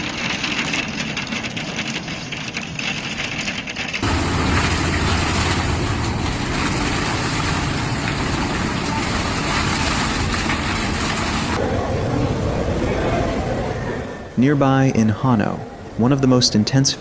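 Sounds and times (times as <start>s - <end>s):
storm rushing and rumbling: 0.0s - 16.0s.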